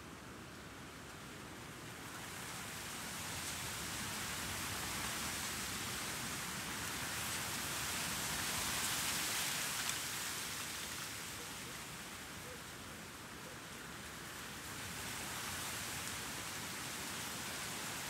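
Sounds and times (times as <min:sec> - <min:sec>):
soft hiss of wind: 0:00.0 - 0:18.0.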